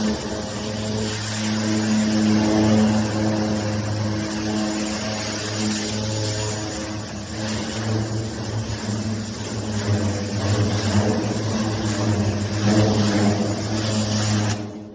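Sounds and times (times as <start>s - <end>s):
high-pressure water spray hiss: 0.0s - 14.7s
pressure washer engine drone: 0.0s - 14.9s.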